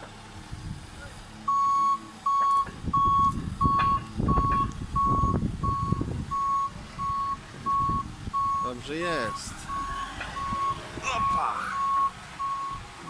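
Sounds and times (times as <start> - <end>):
engine rumble: 0.0 - 13.0
reversing alarm beeping: 1.5 - 12.9.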